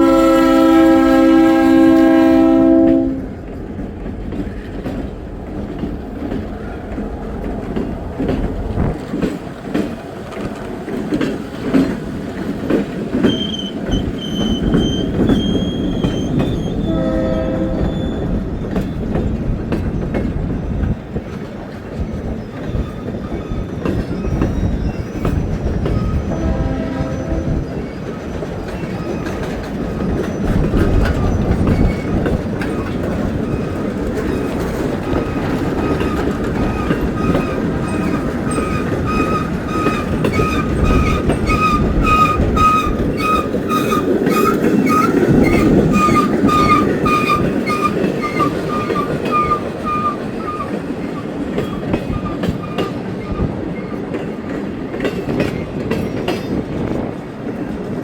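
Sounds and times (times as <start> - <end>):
train rumbling past: 0.0 - 58.0
wheels clacking over rail joints: 0.0 - 58.0.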